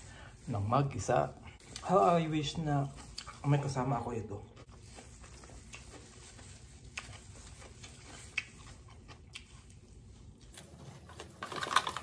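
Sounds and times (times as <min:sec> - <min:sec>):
low background hum: 0:00.0 - 0:12.0
person chewing raw onion: 0:01.4 - 0:12.0.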